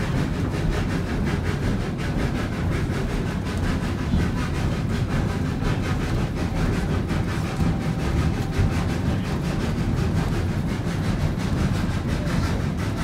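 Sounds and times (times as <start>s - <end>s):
low rumble of moving train: 0.0s - 13.0s
steam locomotive exhaust chuffing: 0.0s - 13.0s.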